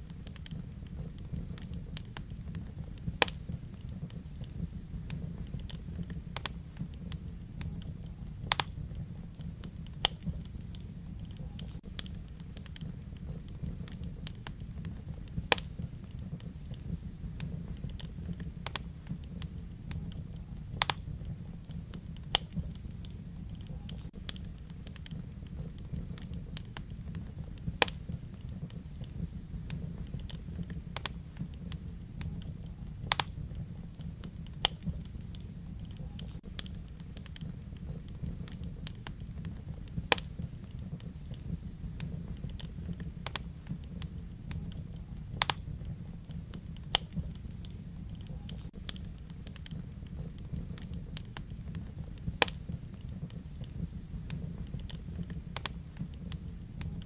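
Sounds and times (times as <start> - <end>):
low rumble of flames: 0.0 - 57.0
sharp fire pops: 0.0 - 57.0
wood fire crackling: 0.0 - 57.0.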